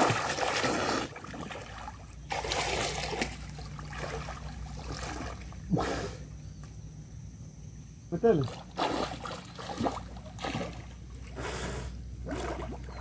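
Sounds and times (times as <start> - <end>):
water splashing and sloshing: 0.0 - 6.0, 8.3 - 13.0.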